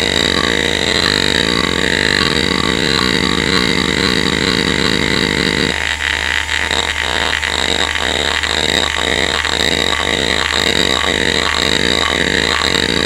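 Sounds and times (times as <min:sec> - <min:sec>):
hard drive seek clicks: 0:00.0 - 0:13.0
spinning drive whine: 0:00.0 - 0:13.0.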